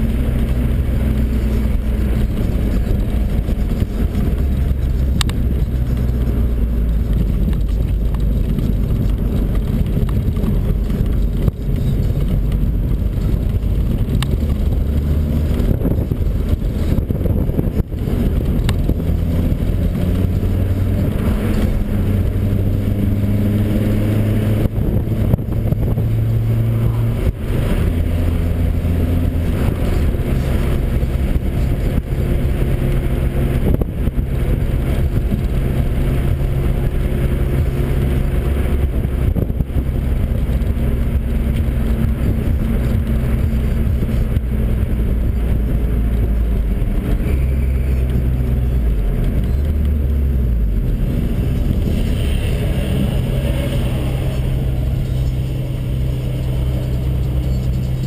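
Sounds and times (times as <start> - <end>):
car engine while driving: 0.0 - 58.0
road noise: 0.0 - 58.0.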